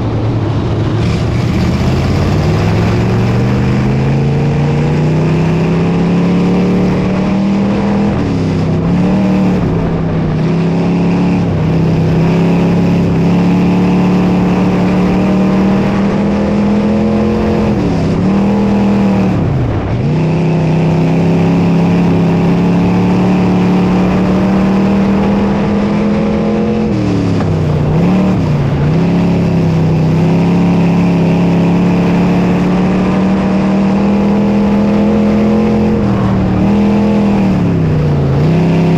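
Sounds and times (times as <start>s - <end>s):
race car engine at high revs: 0.0s - 38.9s.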